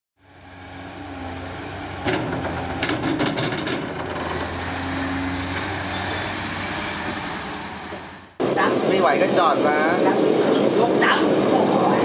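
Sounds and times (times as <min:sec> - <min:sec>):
low engine hum: 0:00.2 - 0:12.0.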